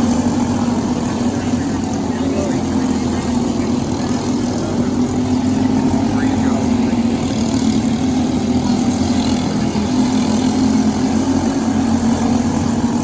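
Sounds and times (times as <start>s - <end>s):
kart engine running: 0.0s - 13.0s.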